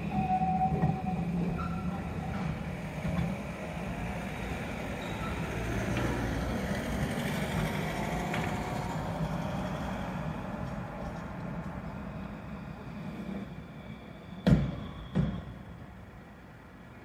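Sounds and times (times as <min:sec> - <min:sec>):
tram moving off: 0:00.0 - 0:17.0.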